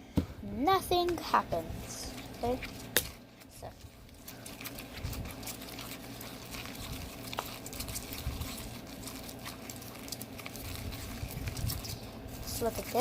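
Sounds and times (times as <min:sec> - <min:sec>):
slime squishing in a bowl: 0:00.4 - 0:13.0.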